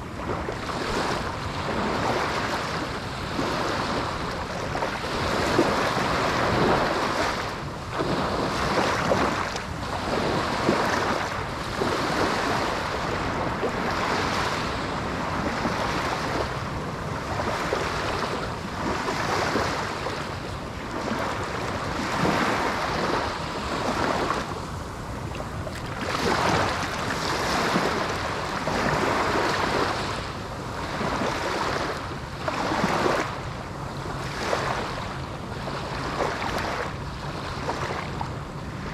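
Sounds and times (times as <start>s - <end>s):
waves washing on a beach: 0.0s - 38.9s
wind on microphone: 0.0s - 38.9s.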